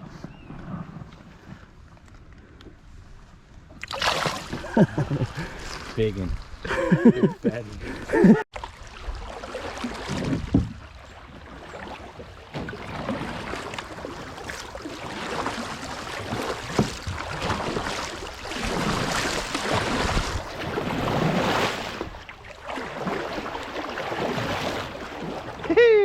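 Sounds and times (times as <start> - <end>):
water splashing around kayak: 3.0 - 26.0.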